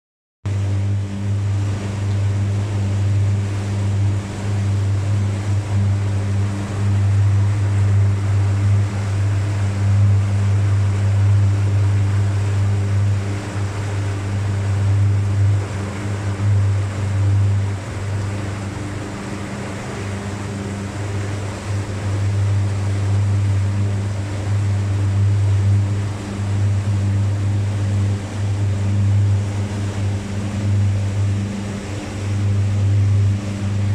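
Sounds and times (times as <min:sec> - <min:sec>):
wind: 0:00.4 - 0:33.9
boat diesel engine humming: 0:00.5 - 0:33.9
rushing water: 0:00.5 - 0:33.9.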